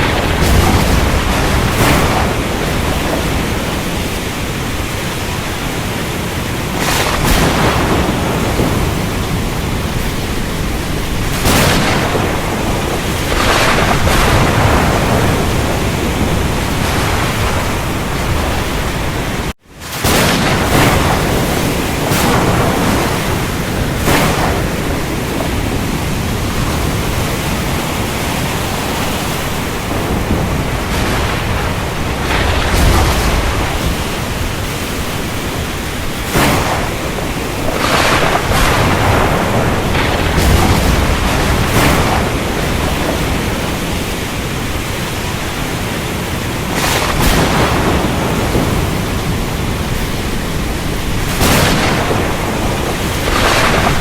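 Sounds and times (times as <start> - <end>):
heavy rain hiss: 0.0 - 54.0
thunder claps and rolls: 0.0 - 54.0.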